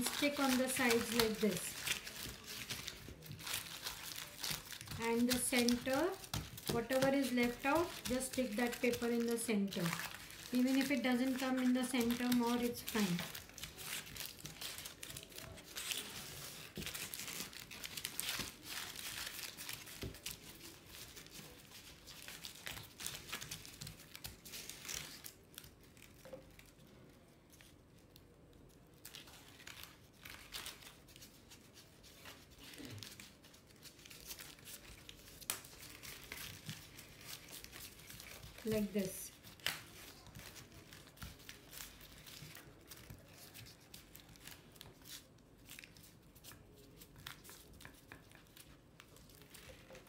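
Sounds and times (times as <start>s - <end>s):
tissue paper crinkling and rustling: 0.0s - 50.0s.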